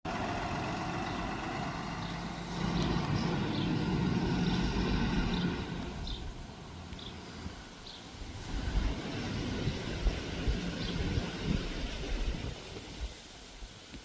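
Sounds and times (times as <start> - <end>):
vehicle engine rumbling past: 0.1 - 13.0.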